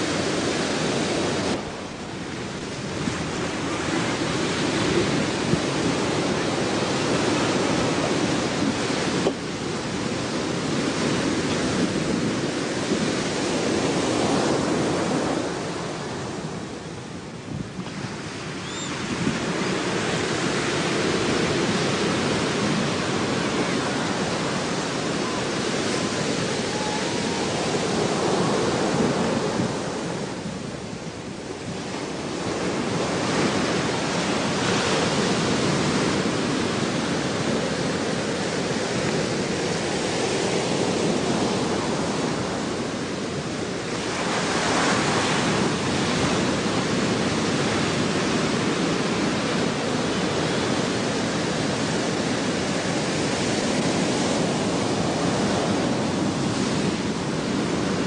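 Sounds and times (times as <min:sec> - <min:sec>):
ocean surf washing ashore: 0:00.0 - 0:58.0.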